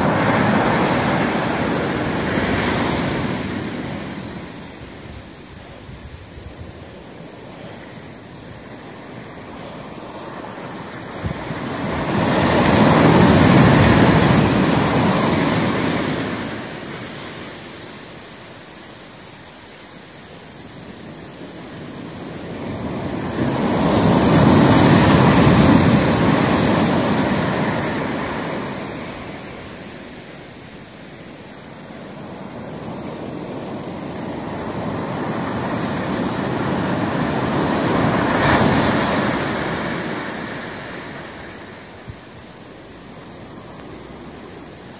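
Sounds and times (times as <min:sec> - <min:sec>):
ocean waves crashing on beach: 0:00.0 - 0:44.9.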